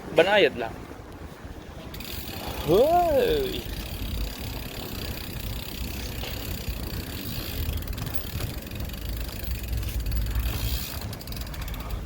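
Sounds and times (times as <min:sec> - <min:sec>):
wind rumbling on microphone: 0:00.0 - 0:12.0
bicycle being ridden: 0:01.8 - 0:12.0.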